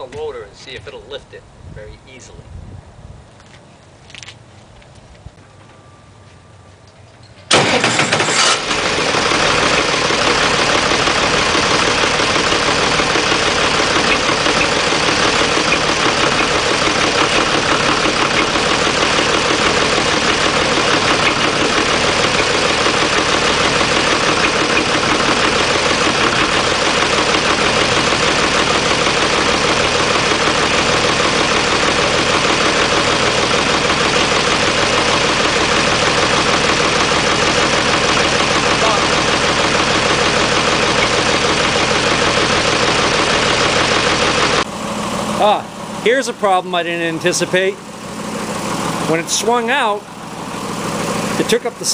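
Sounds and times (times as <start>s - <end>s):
tractor engine starting and running: 0.0s - 2.4s, 3.4s - 51.9s.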